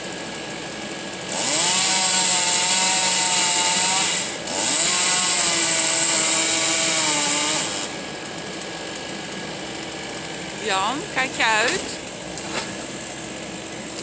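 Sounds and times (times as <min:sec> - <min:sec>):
chainsaw cutting wood: 0:01.0 - 0:14.0.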